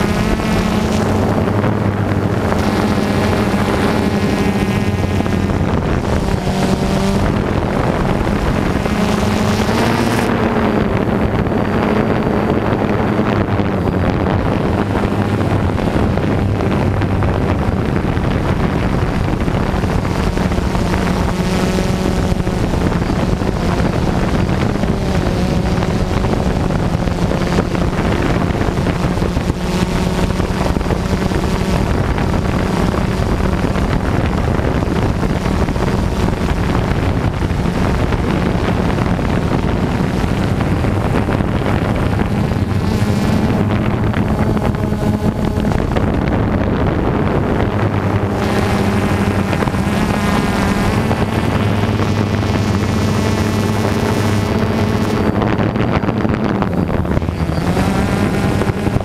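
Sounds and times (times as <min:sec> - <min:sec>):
drone propellers buzzing: 0:00.0 - 0:59.0
wind on microphone: 0:00.0 - 0:59.0.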